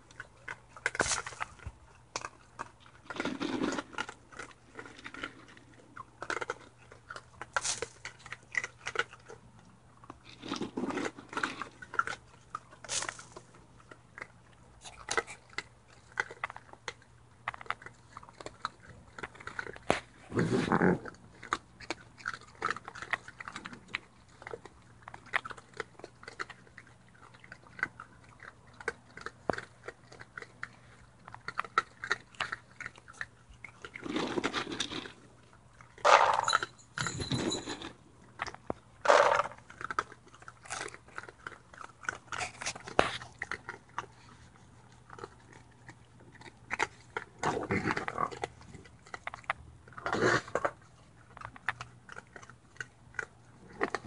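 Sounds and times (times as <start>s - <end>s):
animals crunching dry kibble: 0.0s - 54.0s.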